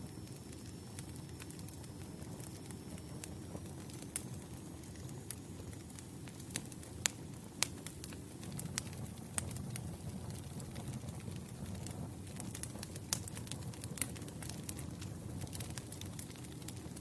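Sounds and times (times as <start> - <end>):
burning wood crackling and popping: 0.0 - 17.0
rumble of campfire flames: 0.0 - 17.0.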